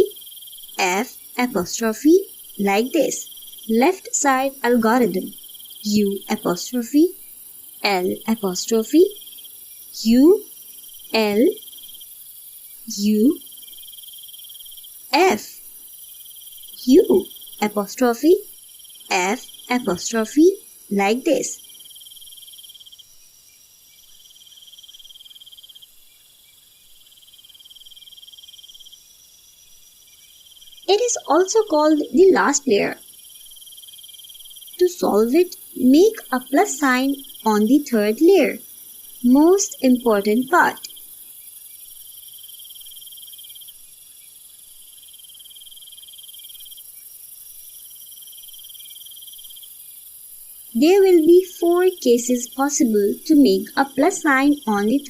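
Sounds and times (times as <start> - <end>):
crickets chirping: 0.0 - 55.0
steady high hiss: 0.0 - 55.0.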